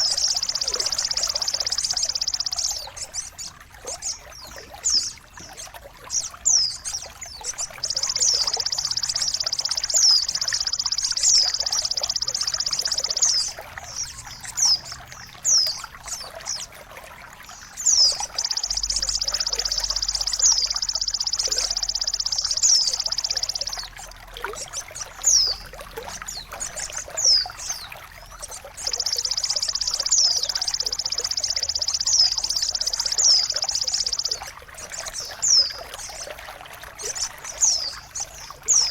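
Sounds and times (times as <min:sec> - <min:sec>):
songbird chirps sweeping downward: 0:00.0 - 0:16.8, 0:17.5 - 0:38.9
high rapid buzzing bird trills: 0:00.0 - 0:38.9
trickling water: 0:00.0 - 0:38.9.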